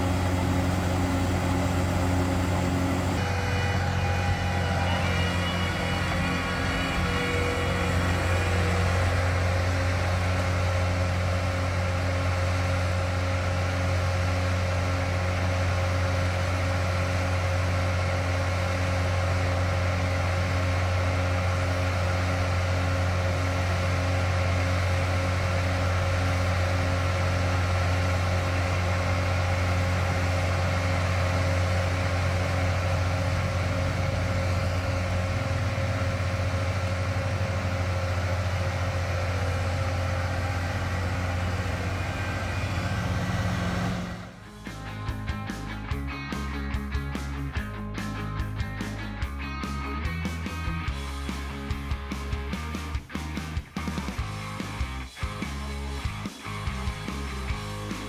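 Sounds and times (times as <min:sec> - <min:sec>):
diesel engine running steadily: 0:00.0 - 0:58.0.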